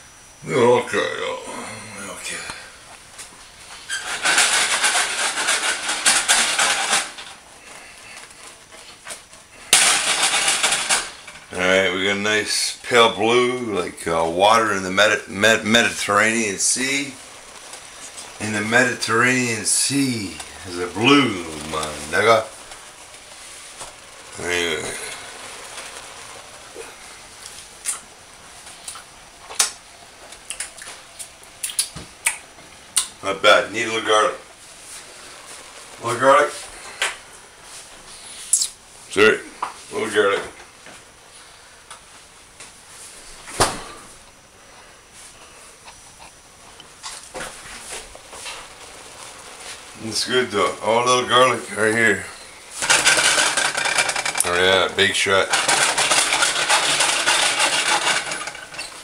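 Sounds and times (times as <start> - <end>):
sauce sizzling in skillet: 7.2 - 43.4, 44.1 - 59.0.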